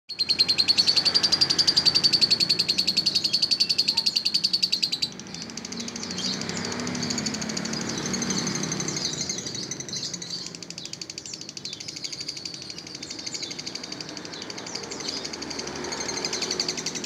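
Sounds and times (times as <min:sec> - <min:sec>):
bird chattering trill: 0:00.1 - 0:17.0
high bird twittering: 0:00.1 - 0:17.0.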